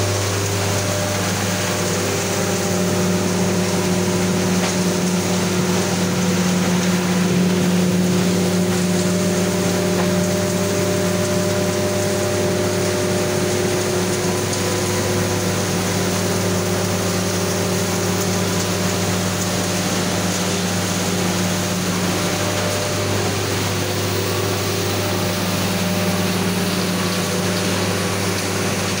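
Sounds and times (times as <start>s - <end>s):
machinery hum: 0.0s - 29.0s.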